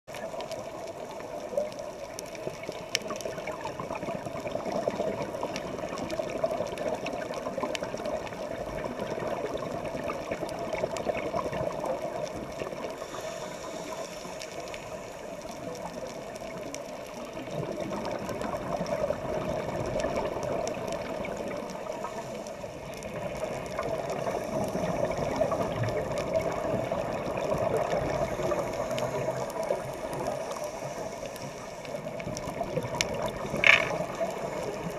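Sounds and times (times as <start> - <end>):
crackling clicks underwater: 0.1 - 34.9
muffled underwater rush: 0.1 - 34.9.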